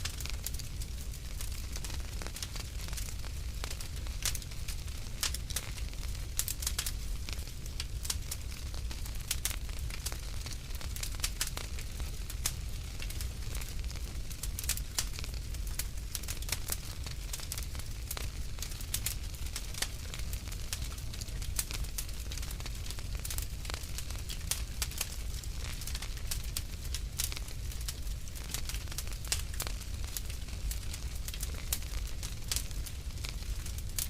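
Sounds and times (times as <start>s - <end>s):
fire pops and snaps: 0.0s - 34.0s
wood fire crackling: 0.0s - 34.0s.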